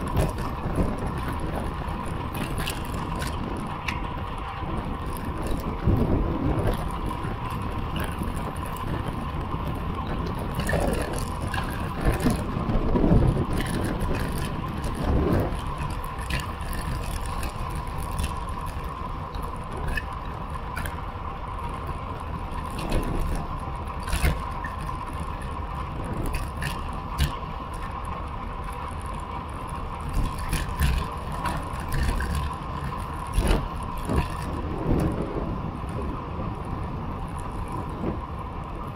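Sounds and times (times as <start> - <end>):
bike clicks and rattles over bumps: 0.0 - 38.9
wind on microphone: 0.0 - 38.9.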